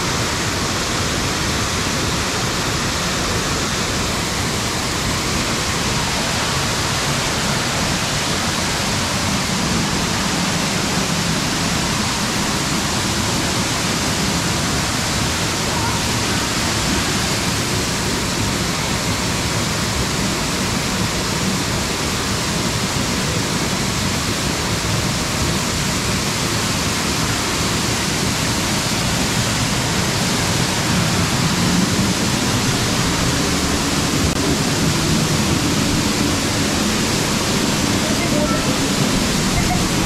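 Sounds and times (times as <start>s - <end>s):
waterfall rushing onto rocks: 0.0s - 40.0s.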